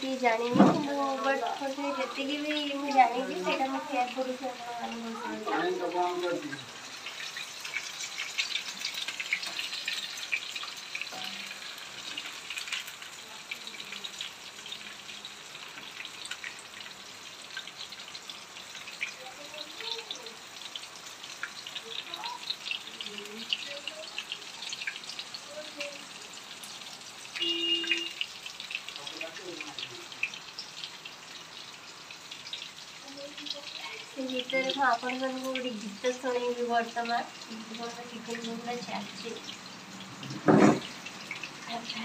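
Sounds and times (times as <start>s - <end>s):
food deep-frying in oil: 0.0s - 42.0s.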